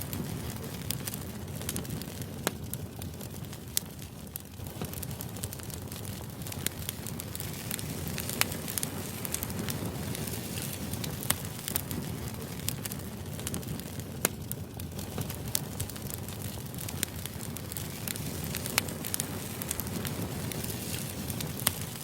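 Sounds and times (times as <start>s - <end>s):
sharp crackles and clicks: 0.0s - 22.0s.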